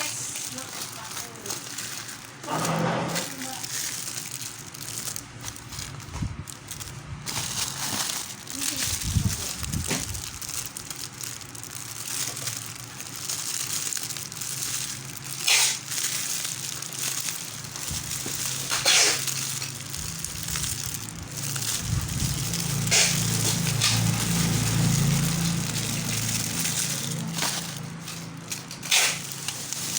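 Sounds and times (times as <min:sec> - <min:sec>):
packaging crinkling: 0:00.0 - 0:29.9
sharp crackles: 0:00.0 - 0:29.9.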